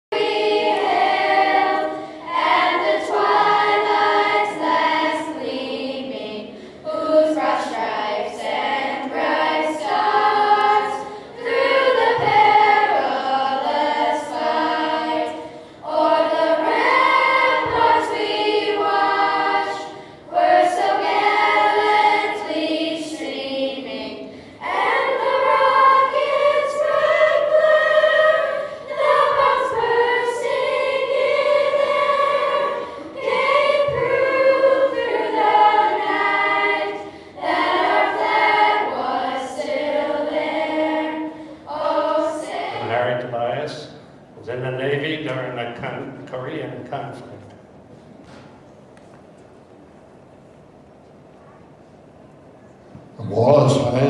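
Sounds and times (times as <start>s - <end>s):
children's choir singing: 0.1s - 43.9s.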